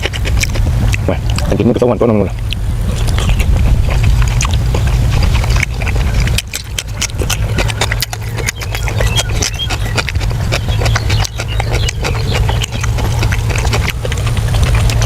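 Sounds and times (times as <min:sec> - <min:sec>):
low rumble: 0:00.0 - 0:15.0
wet chewing and lip-smacking: 0:00.0 - 0:15.0.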